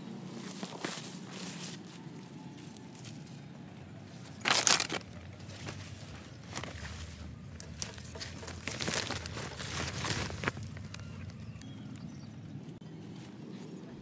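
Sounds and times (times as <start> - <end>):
brush rustling and crackling: 0.1 - 12.0.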